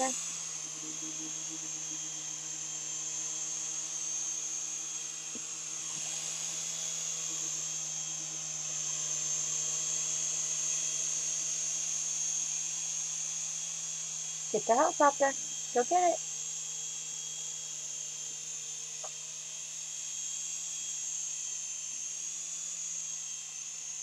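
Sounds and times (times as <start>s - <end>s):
toy helicopter motor whine: 0.0s - 24.0s.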